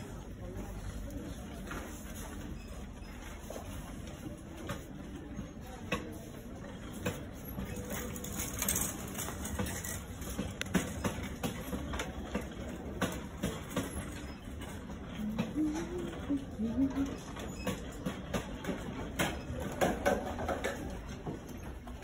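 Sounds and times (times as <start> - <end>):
low hum of store: 0.0 - 22.0
shopping cart rattling: 0.1 - 22.0.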